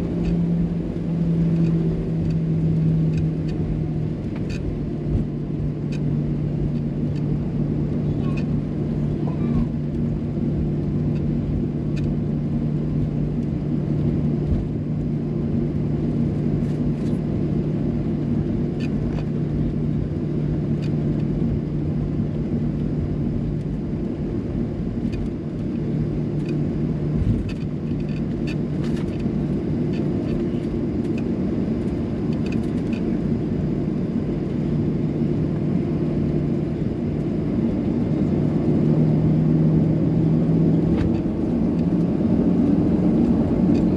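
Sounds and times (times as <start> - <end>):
airliner engines rumbling in cabin: 0.0 - 43.9.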